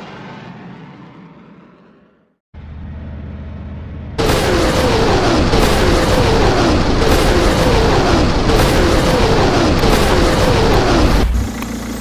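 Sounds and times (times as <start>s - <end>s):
rocket launch roar: 0.0s - 2.2s, 4.2s - 11.6s.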